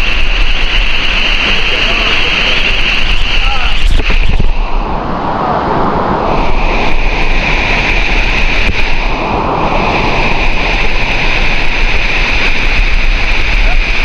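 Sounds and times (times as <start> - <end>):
high-pitched hiss: 0.0 - 5.6, 6.2 - 14.0
waterfall rushing: 0.0 - 14.0.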